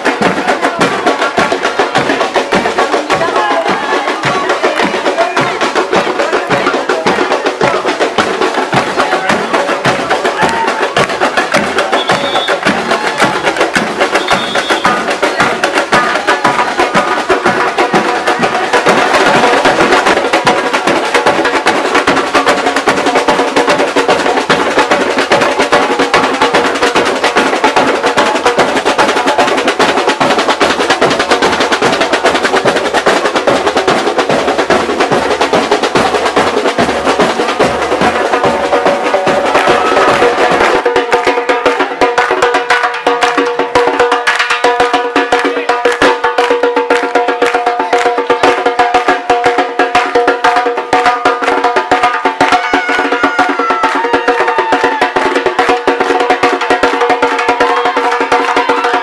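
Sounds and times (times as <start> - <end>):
marching drum troupe: 0.0 - 59.0.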